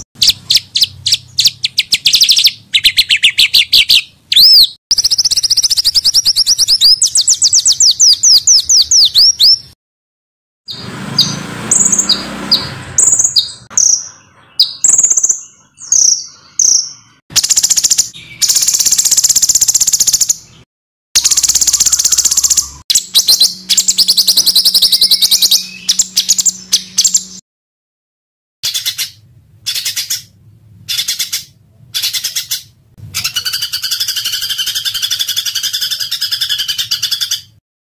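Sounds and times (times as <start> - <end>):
songbirds singing harsh trills: 0.0 - 9.8, 10.7 - 20.6, 21.2 - 27.4, 28.6 - 37.6.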